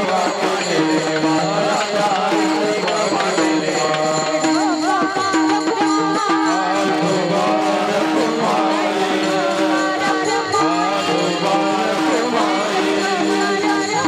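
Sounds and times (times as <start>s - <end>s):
drum strokes: 0.0s - 14.0s
held accompanying drone note: 0.0s - 14.0s
woman singing: 0.0s - 14.0s.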